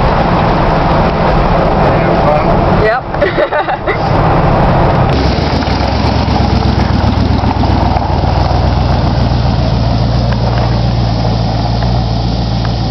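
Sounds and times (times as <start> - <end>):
pickup truck engine running: 0.0 - 12.9.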